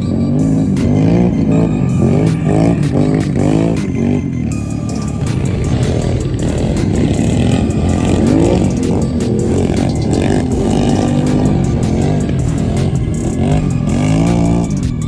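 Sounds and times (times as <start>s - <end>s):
music playing: 0.0s - 15.0s
quad engines revving: 0.0s - 15.0s.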